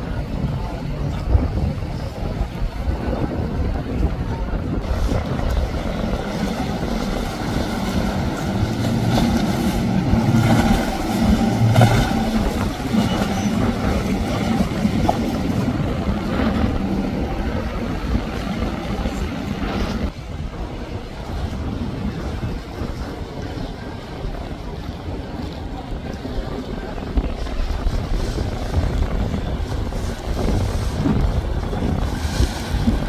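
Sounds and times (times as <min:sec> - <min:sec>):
outboard motors humming: 0:00.0 - 0:33.0
wind on microphone: 0:00.0 - 0:33.0.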